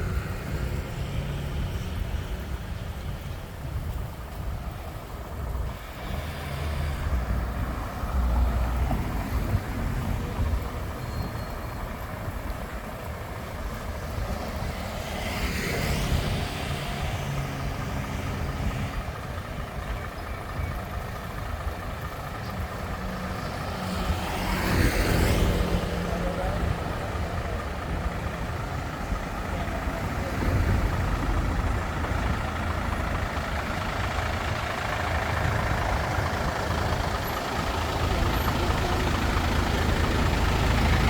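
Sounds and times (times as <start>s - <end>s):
vehicle passing close: 0.0s - 11.0s, 12.0s - 19.6s, 20.8s - 41.0s
road traffic rumble: 0.0s - 41.0s.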